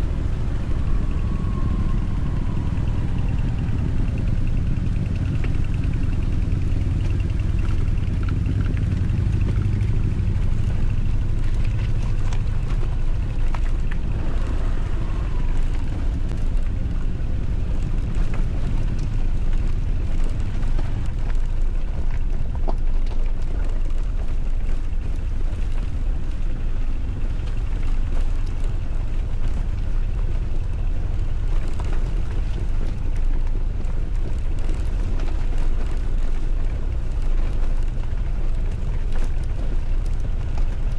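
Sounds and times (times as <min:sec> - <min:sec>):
motorcycle engine rumble: 0:00.0 - 0:40.9
wind buffeting microphone: 0:00.0 - 0:40.9.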